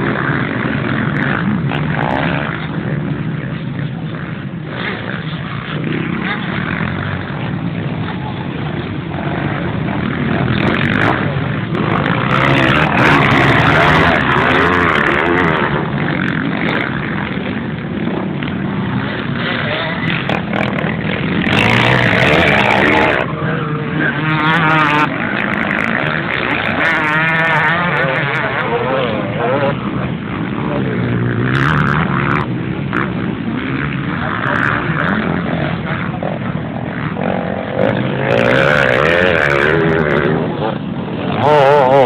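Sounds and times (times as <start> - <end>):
motocross motorcycle engines revving: 0.0 - 42.0.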